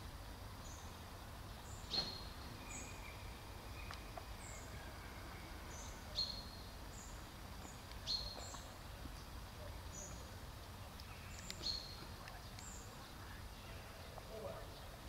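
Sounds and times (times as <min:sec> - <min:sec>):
small birds chirping: 0:00.4 - 0:15.0.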